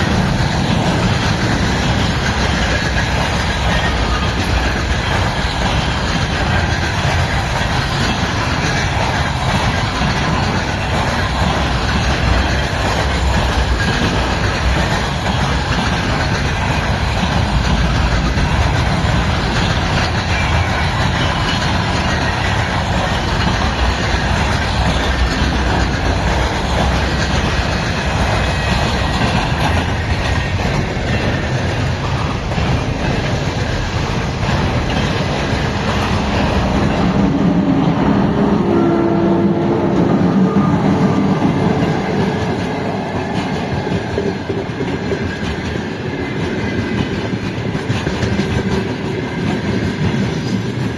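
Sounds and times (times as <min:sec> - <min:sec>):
train wheels clattering on rails: 0:00.0 - 0:50.9.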